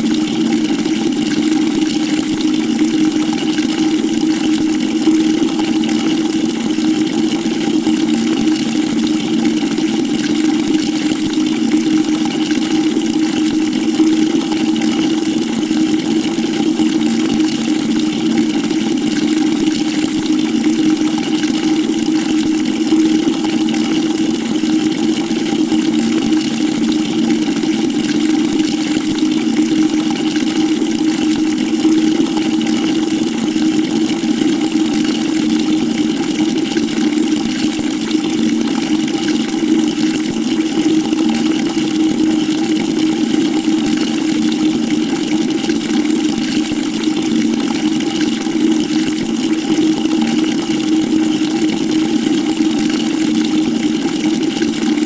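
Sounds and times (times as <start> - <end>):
water pouring into a bucket: 0.0 - 55.0.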